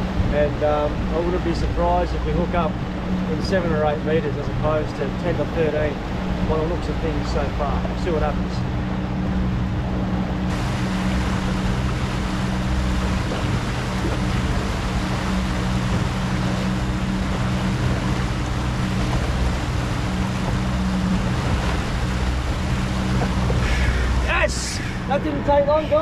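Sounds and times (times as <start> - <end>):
outboard motor humming: 0.0 - 26.0
water wash rushing: 0.0 - 26.0.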